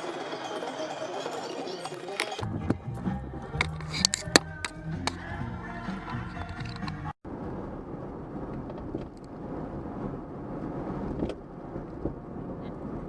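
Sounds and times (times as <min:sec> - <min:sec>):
car engine and road noise: 0:02.0 - 0:13.0.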